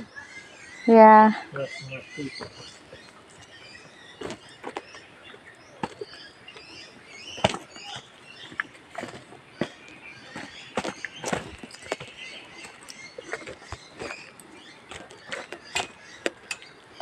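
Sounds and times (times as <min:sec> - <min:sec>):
faint high chirping: 0:00.0 - 0:17.0.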